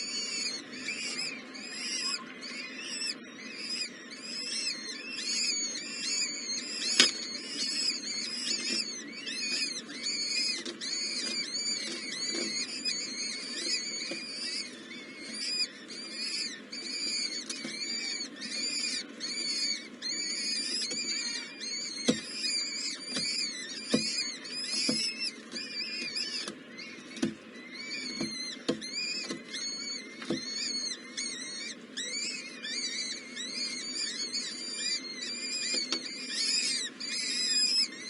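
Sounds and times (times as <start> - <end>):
nestling birds chirping: 0.0 - 38.0.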